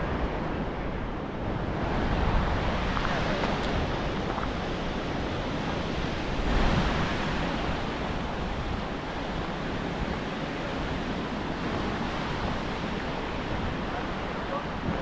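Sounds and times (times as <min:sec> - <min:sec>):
wind gust on microphone: 0:00.0 - 0:15.0.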